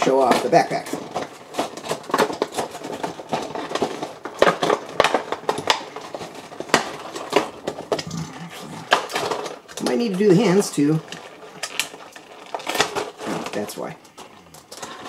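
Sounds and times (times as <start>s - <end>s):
plastic tray crackling and clicking: 0.0s - 15.0s.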